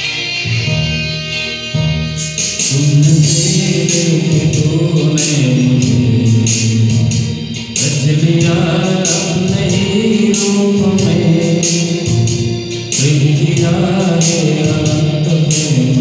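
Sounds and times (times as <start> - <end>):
backing track with steady beat: 0.0 - 16.0
man singing into a microphone: 2.7 - 16.0.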